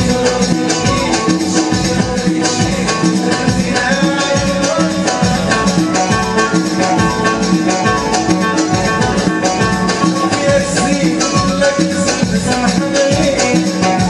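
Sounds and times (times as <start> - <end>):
banjo plucked melody: 0.0 - 14.0
keyboard: 0.0 - 14.0
live band music: 0.0 - 14.0
percussion beat: 0.0 - 14.0.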